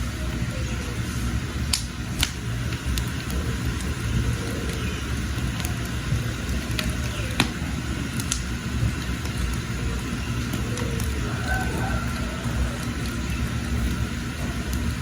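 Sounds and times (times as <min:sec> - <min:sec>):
fire crackling and popping: 0:00.0 - 0:15.0
fire flames roaring: 0:00.0 - 0:15.0.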